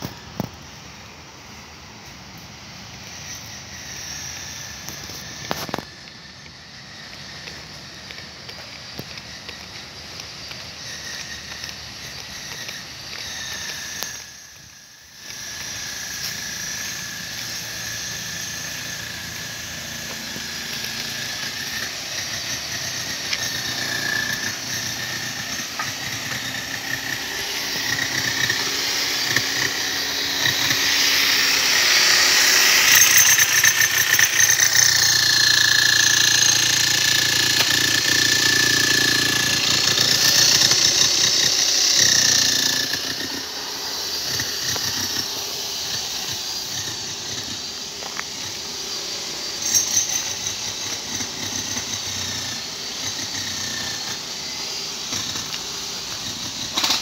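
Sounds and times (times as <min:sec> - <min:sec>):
engine running with whine: 0:00.0 - 0:57.0.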